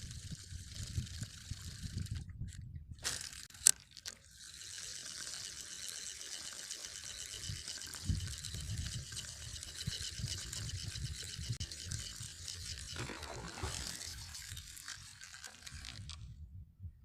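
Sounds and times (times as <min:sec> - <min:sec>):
fishing reel ticking whir: 0:00.0 - 0:16.4.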